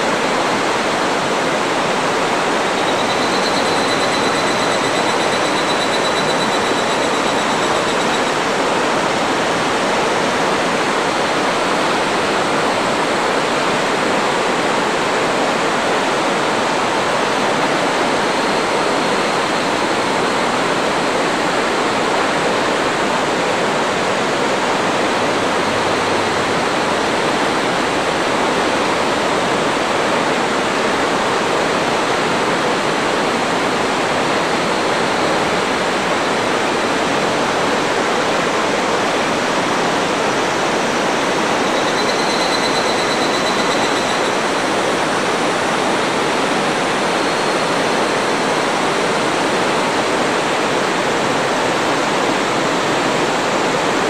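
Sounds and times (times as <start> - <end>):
river rapids roaring: 0.0 - 54.0.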